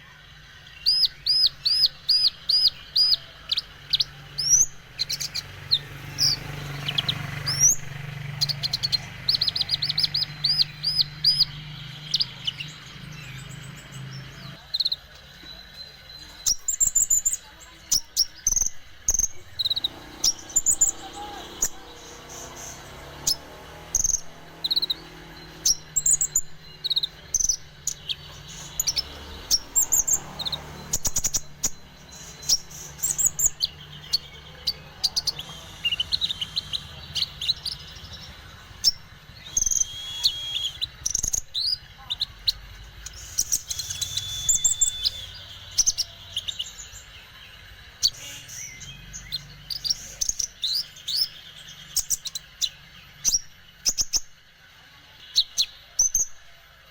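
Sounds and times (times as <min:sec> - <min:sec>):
bird chirping: 0:00.0 - 0:56.9.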